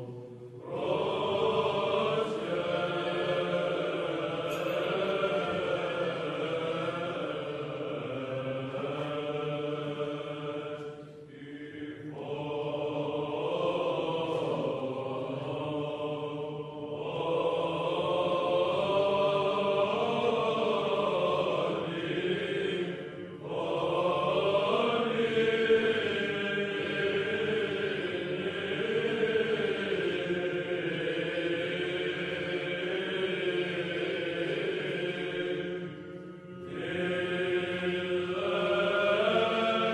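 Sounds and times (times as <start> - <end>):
low vocal drone: 0.0 - 39.9
melismatic chant singing: 0.0 - 39.9.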